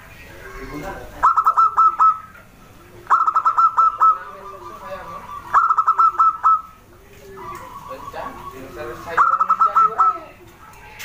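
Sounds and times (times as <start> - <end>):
dove cooing: 0.4 - 10.4.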